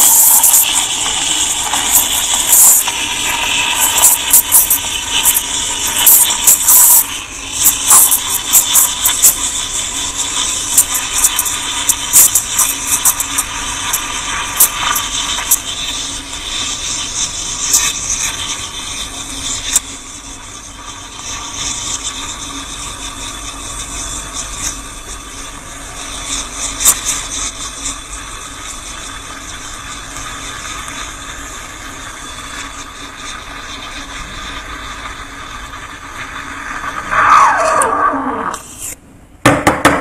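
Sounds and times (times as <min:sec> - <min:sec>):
steam wand hissing into milk: 0:00.0 - 0:39.0.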